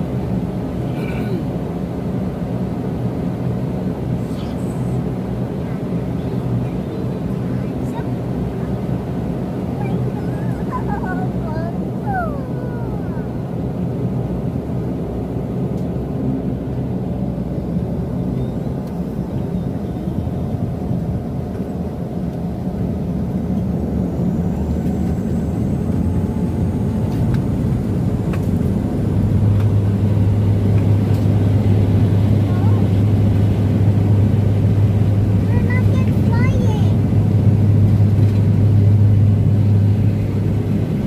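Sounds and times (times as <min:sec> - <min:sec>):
airliner engines rumbling in cabin: 0:00.0 - 0:41.0
deep steady engine hum: 0:00.0 - 0:41.0.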